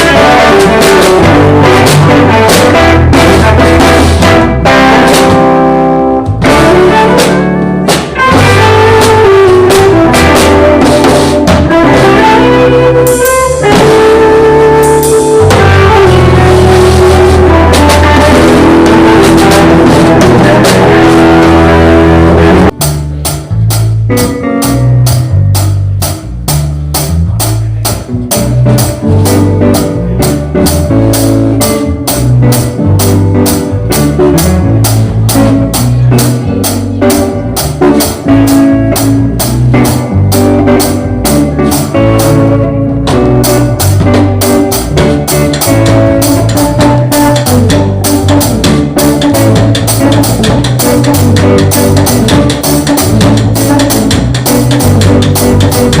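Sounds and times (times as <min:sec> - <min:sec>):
drum kit groove: 0:00.0 - 0:56.0
live band jamming: 0:00.0 - 0:56.0.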